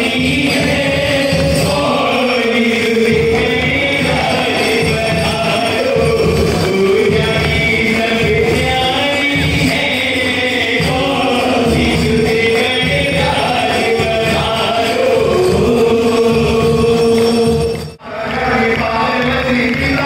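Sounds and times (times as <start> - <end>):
devotional singing: 0.0 - 20.0
steady rhythmic beat: 0.0 - 20.0.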